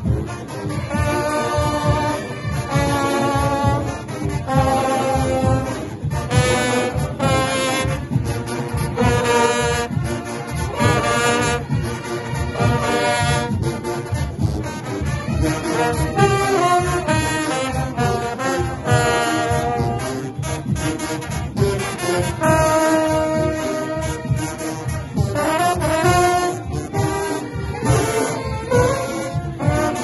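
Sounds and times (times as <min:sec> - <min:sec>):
brass section playing riffs: 0:00.0 - 0:30.0
rapid low drum beats: 0:00.0 - 0:30.0.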